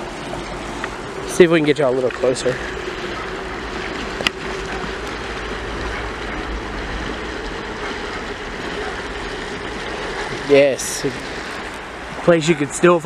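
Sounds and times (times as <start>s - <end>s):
river water over rocks: 0.0s - 13.0s.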